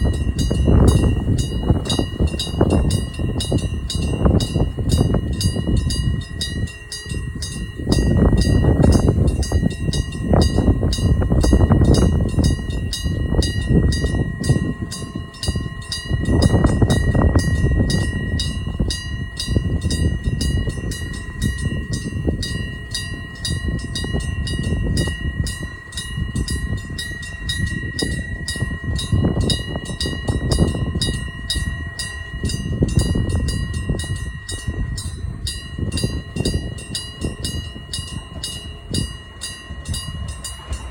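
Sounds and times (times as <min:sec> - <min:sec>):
level-crossing alarm clanging: 0:00.0 - 0:40.9
train rumbling: 0:00.0 - 0:40.9.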